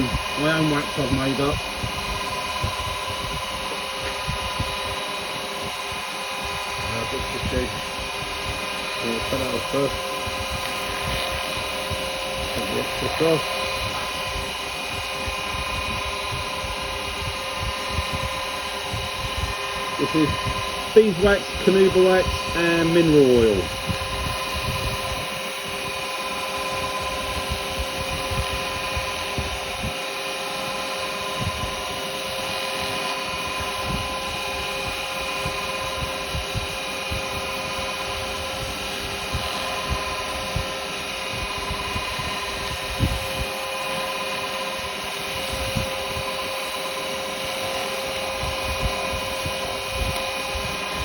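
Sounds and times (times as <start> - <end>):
wood lathe motor whine: 0.0 - 51.0.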